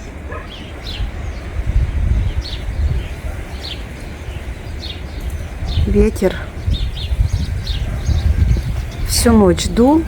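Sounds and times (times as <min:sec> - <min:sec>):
gusty wind buffeting microphone: 0:00.0 - 0:10.0
small birds chirping: 0:00.0 - 0:10.0.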